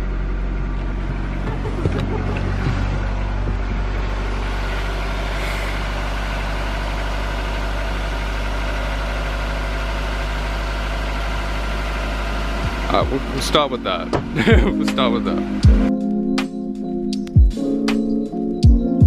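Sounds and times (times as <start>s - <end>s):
car engine idling: 0.0s - 18.5s.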